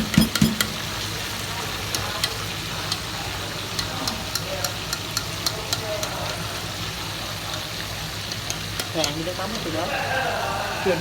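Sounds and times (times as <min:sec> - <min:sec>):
oil crackling and popping: 0:00.0 - 0:09.9
food sizzling in hot oil: 0:00.0 - 0:11.0.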